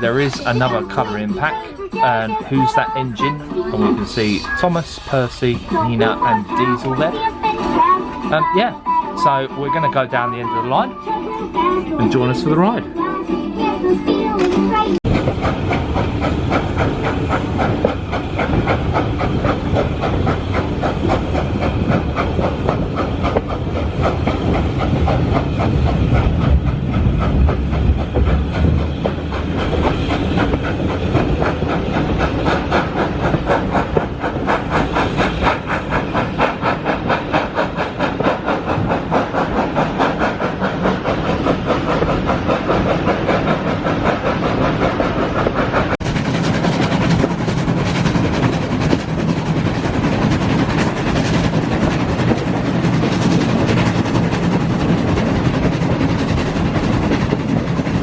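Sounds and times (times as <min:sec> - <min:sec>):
passenger train running: 0:00.0 - 0:58.0.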